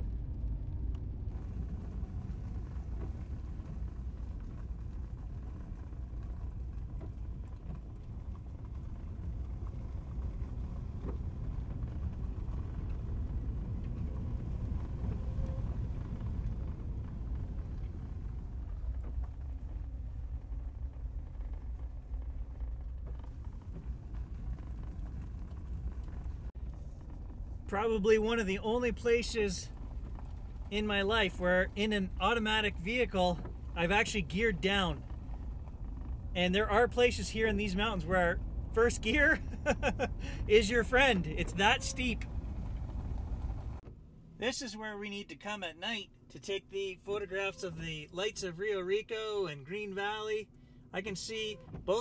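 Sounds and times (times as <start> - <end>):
car engine rumble: 0.0 - 52.0
tyres on road: 0.0 - 52.0.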